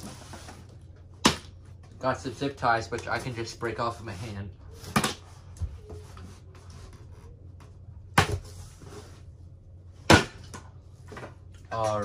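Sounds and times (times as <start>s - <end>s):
rubbing and handling noise: 0.0s - 9.8s.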